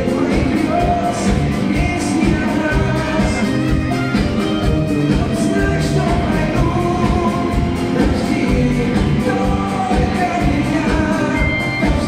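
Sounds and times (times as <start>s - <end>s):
man singing into microphone: 0.0s - 3.7s, 5.1s - 12.0s
loud pop-rock backing music: 0.0s - 12.0s.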